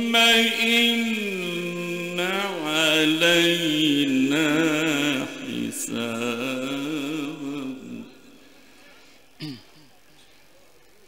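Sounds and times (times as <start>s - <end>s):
man reciting melodically: 0.0s - 8.9s.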